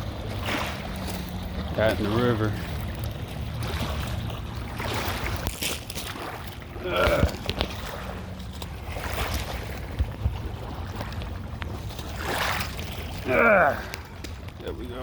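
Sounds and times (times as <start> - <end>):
water lapping: 0.0 - 15.0
wind rumbling on microphone: 0.0 - 15.0.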